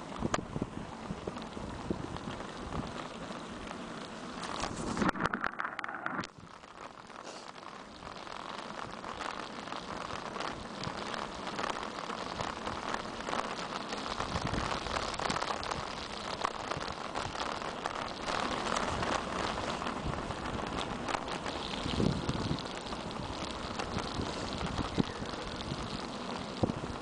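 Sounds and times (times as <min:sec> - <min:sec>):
bicycle rolling on wet road: 0:00.0 - 0:27.0.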